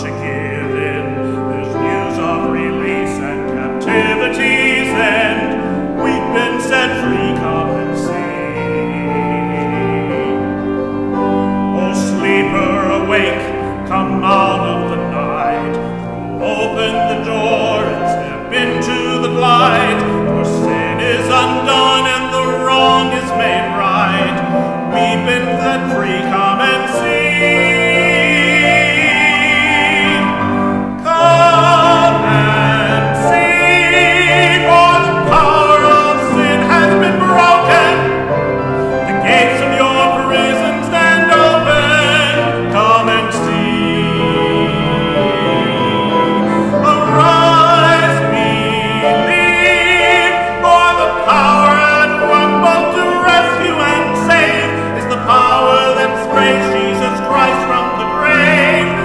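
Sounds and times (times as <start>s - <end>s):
instrumental accompaniment: 0.0s - 59.0s
operatic solo singing: 0.0s - 59.0s.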